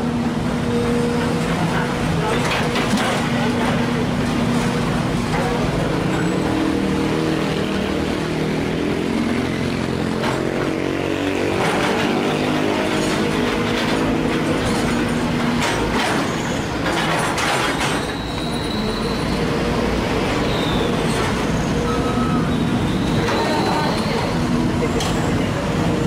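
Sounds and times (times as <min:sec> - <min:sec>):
excavator diesel engine under load: 0:00.0 - 0:26.0.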